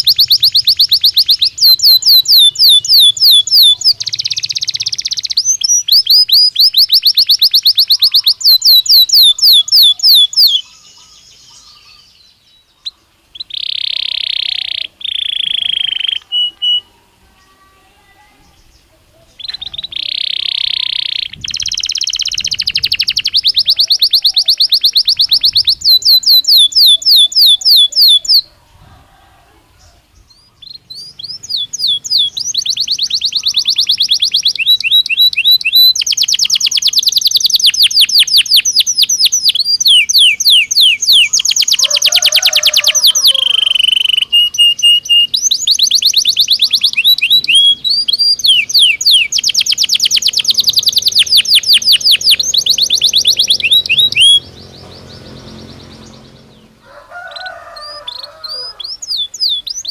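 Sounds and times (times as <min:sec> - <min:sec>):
canary singing rapid trills: 0:00.0 - 0:17.0, 0:18.5 - 0:28.6, 0:30.2 - 0:59.9
low buzzy bird trill: 0:00.0 - 0:59.9.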